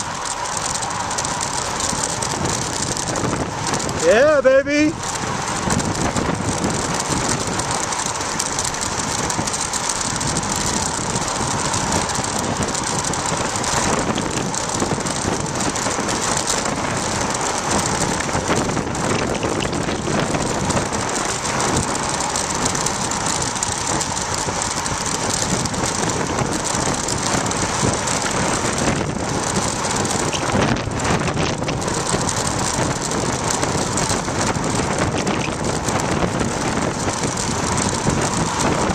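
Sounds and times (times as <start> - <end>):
bicycle tyres on asphalt: 0.0 - 38.9
wind rushing over microphone: 0.0 - 38.9.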